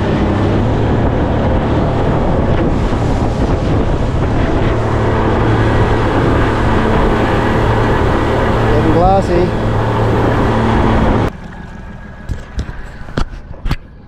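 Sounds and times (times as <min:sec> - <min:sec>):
outboard motor running: 0:00.0 - 0:14.0
water rushing past hull: 0:00.0 - 0:14.0
wind buffeting microphone: 0:00.0 - 0:14.0.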